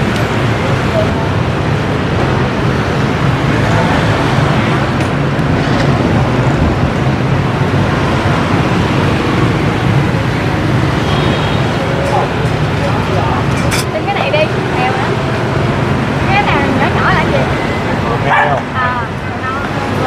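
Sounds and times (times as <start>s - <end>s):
loud street traffic: 0.0s - 20.0s.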